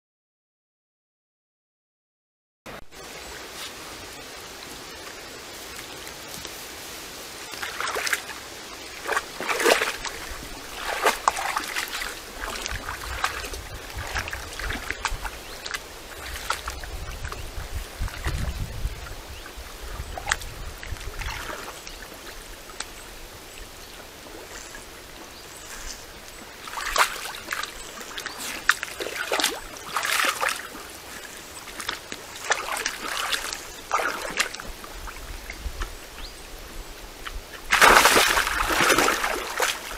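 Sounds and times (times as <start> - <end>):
water splashing and sloshing: 2.9 - 39.9.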